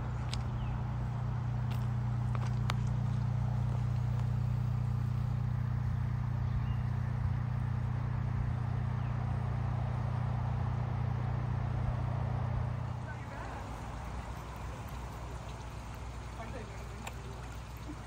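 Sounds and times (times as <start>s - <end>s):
low mechanical machine hum: 0.0s - 18.0s.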